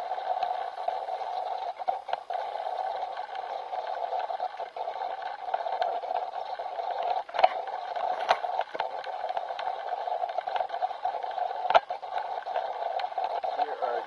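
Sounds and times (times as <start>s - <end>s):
choppy water: 0.0s - 14.0s.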